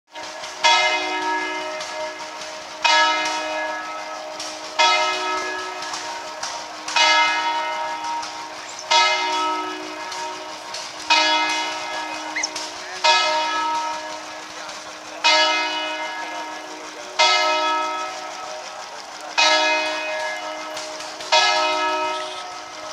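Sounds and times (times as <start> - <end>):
church bell tolling: 0.1 - 22.9.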